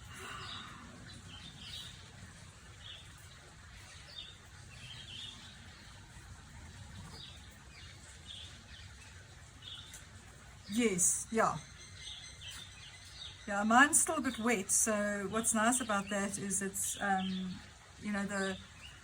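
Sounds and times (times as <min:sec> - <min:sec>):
birds chirping faintly: 0:00.0 - 0:19.0
low steady background noise: 0:00.0 - 0:19.0.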